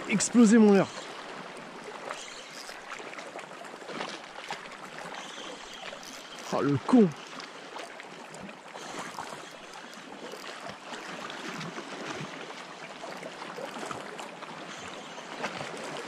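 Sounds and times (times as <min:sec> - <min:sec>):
faint water splashes: 0:00.0 - 0:16.0
small waves hissing: 0:00.0 - 0:16.0.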